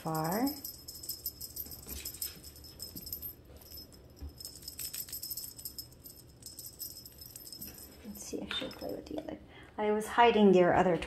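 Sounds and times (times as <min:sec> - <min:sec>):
small jingle bell tinkling: 0:00.0 - 0:09.3.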